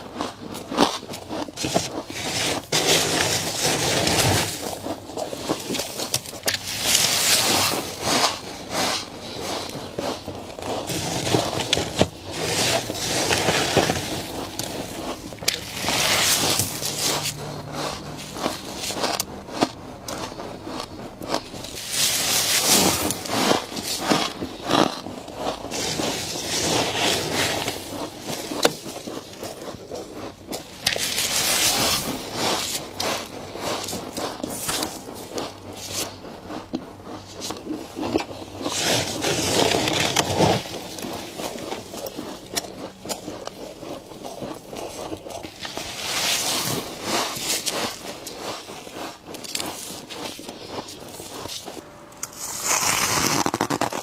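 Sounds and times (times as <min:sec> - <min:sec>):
chewing and crunching: 0:00.0 - 0:54.0
frost being scraped: 0:00.7 - 0:54.0.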